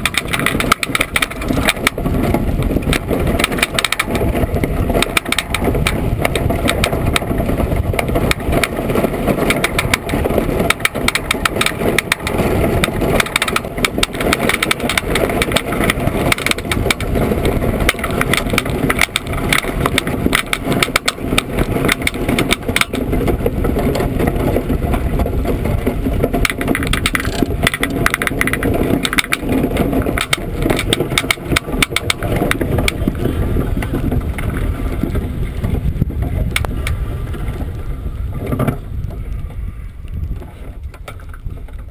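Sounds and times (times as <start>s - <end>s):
iceboat runners rumbling on ice: 0.0s - 41.9s
small clicks and knocks: 0.0s - 41.9s.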